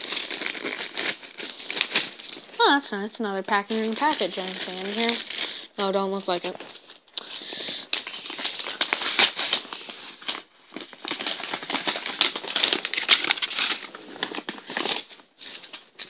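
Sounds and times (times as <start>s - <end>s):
paper envelope crinkling: 0.0s - 16.0s.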